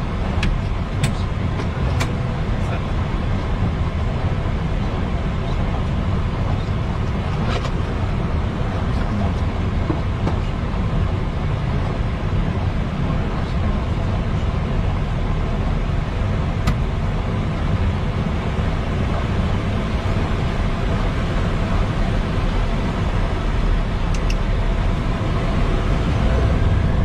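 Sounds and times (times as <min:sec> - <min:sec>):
aircraft engines rumbling: 0:00.0 - 0:27.0.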